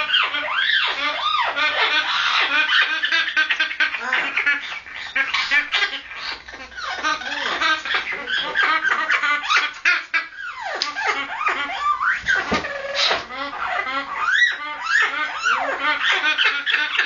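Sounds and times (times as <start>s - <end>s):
parrot chattering and squealing: 0.0s - 17.0s.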